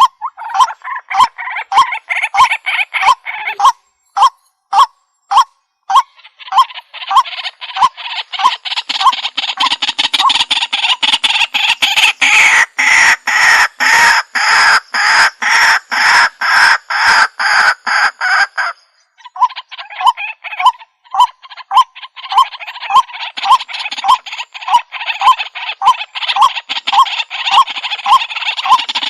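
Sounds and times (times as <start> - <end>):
waterhen calling harsh notes: 0.0 - 29.0.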